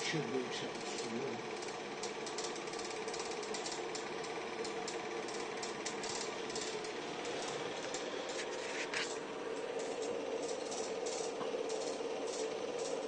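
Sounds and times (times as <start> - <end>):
film projector whirring: 0.0 - 13.0
film mechanism clicking: 0.8 - 13.0.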